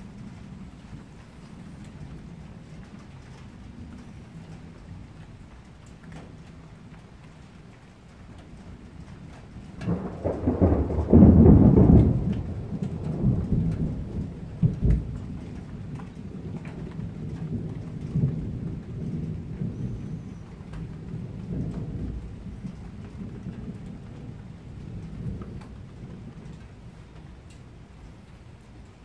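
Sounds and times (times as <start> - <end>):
rain falling: 0.0 - 29.0
thunder clap and rumbles: 0.0 - 29.0.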